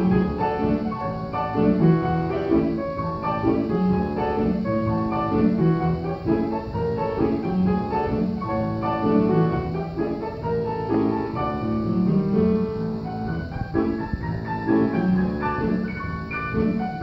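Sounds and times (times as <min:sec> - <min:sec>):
ragtime piano: 0:00.0 - 0:17.0.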